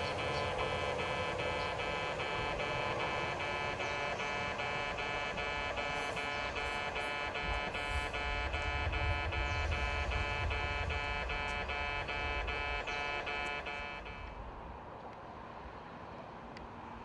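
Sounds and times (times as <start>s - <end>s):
electronic crossing warning bell: 0.0s - 14.4s
train rumbling: 0.0s - 14.7s.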